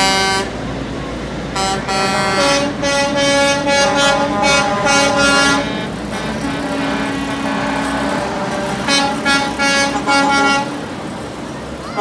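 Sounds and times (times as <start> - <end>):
truck air horns honking: 0.0 - 12.0
truck engines rumbling: 0.0 - 12.0.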